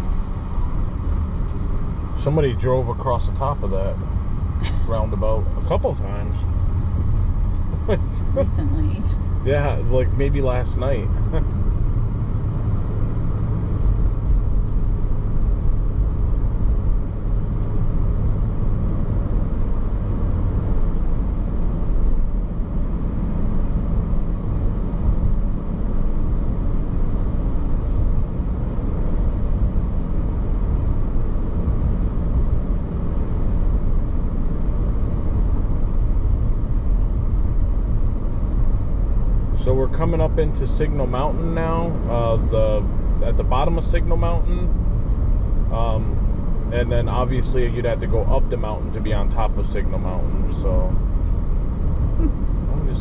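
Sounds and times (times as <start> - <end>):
engine and tyre rumble: 0.0 - 53.0.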